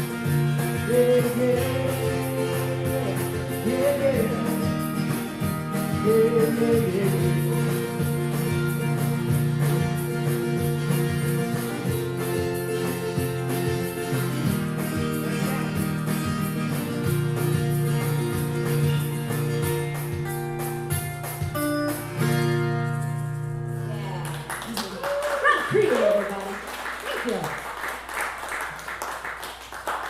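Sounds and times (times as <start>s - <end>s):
band music led by guitar: 0.0s - 25.0s.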